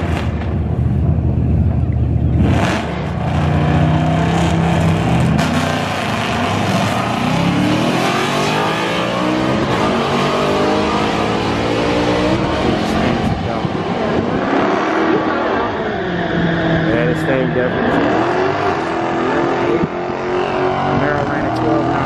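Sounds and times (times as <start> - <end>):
drag car engines revving: 0.0 - 22.0
cars accelerating through gears: 2.3 - 22.0.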